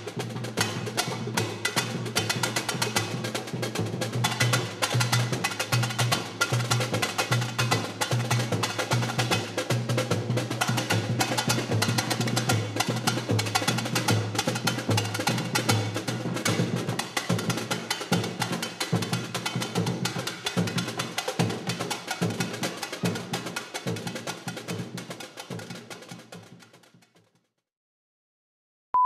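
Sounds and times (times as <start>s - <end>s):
samba drums playing: 0.0s - 26.8s.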